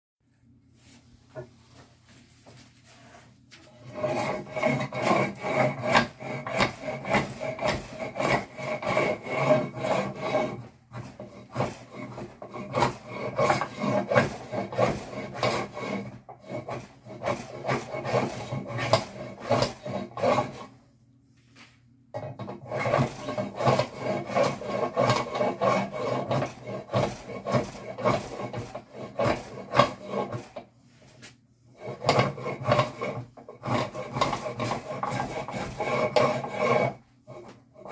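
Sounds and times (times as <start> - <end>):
block plane scraping wood: 1.3 - 20.8, 21.4 - 37.9.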